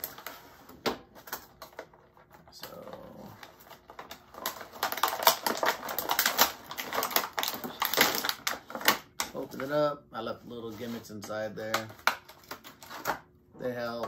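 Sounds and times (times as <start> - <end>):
plastic blister packaging crackling: 0.0 - 14.0.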